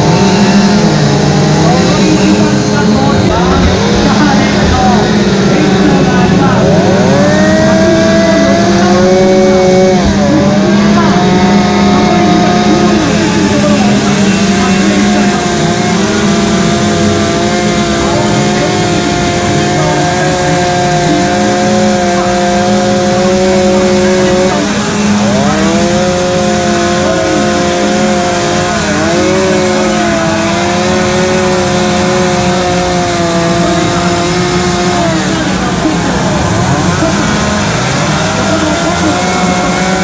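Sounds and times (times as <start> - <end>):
chainsaws carving wood: 0.0 - 40.0.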